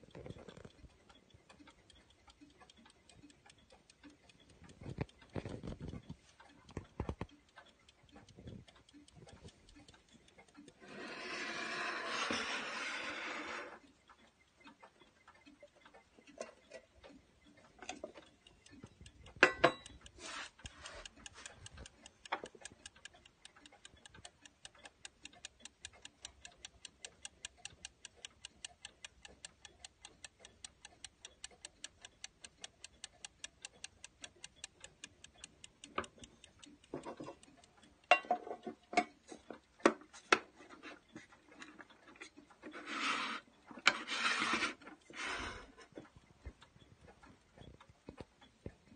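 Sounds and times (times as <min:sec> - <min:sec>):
clock ticking fast: 0:00.0 - 0:48.9.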